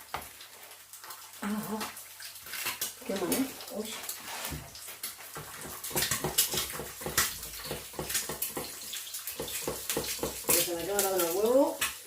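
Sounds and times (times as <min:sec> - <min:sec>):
egg sizzling in hot oil: 0:00.0 - 0:12.0.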